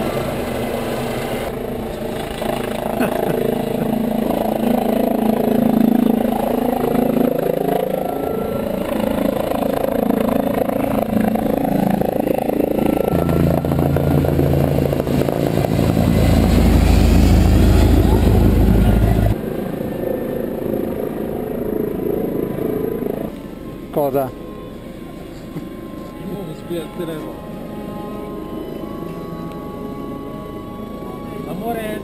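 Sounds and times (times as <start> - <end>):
helicopter engine and rotor: 0.0 - 32.0.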